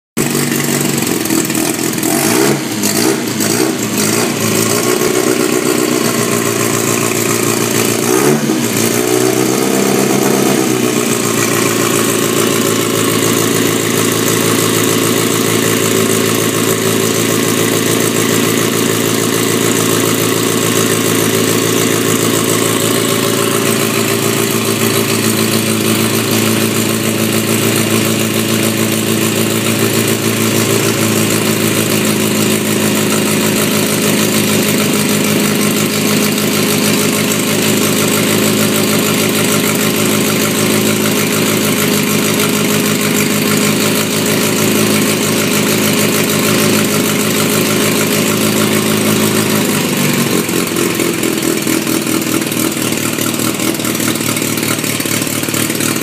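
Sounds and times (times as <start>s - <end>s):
car engine revving and idling: 0.2s - 56.0s.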